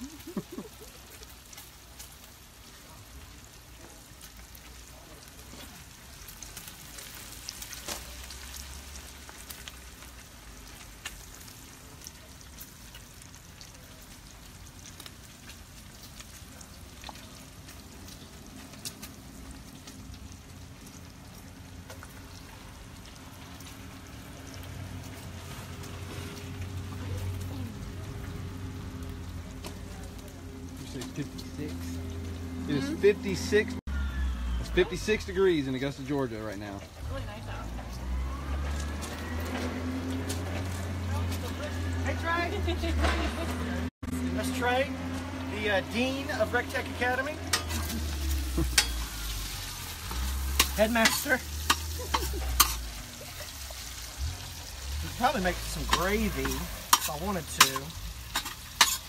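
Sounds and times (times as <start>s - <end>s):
bacon sizzling in grease: 0.0s - 59.0s.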